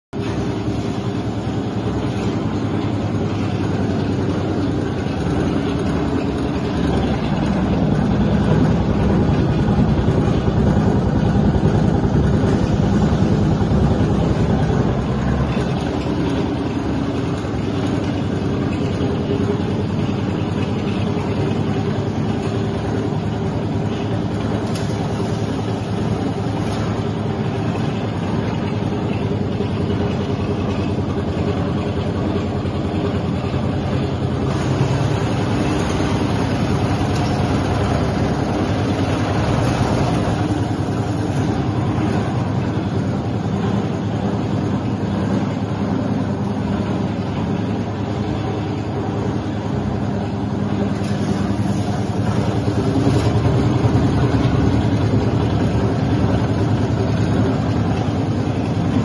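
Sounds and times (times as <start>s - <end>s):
bread slicer mechanical hum: 0.2s - 59.0s.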